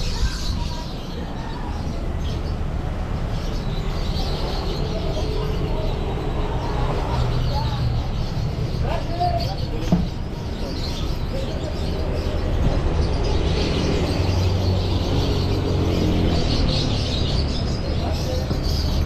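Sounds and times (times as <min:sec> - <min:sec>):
songbirds chirping: 0:00.0 - 0:19.0
street traffic: 0:00.0 - 0:19.0.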